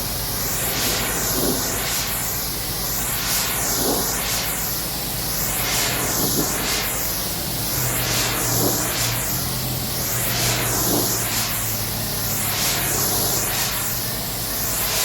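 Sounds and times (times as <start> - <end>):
pressure washer spray hissing: 0.0 - 15.0.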